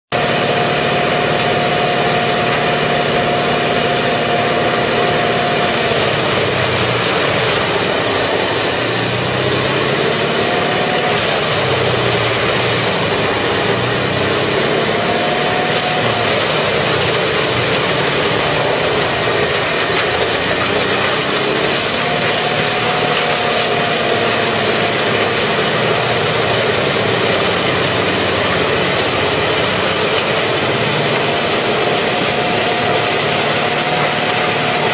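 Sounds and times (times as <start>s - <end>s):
wood chipper running: 0.1s - 34.9s.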